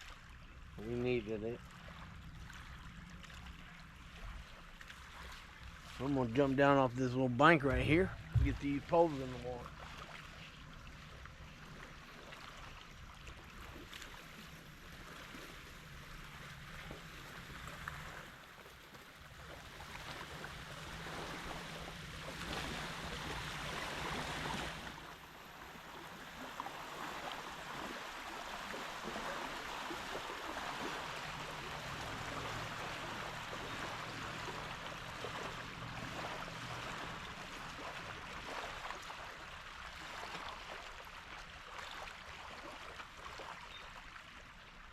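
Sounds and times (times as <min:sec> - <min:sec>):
water lapping at bank: 0:00.0 - 0:44.9.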